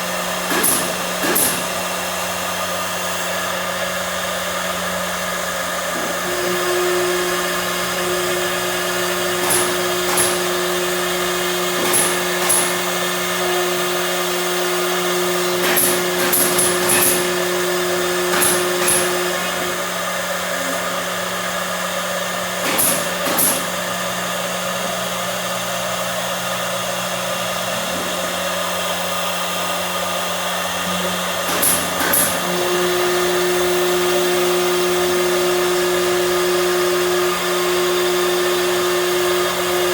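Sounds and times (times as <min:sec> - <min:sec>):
machine motor whine and hum: 0:00.0 - 0:39.9.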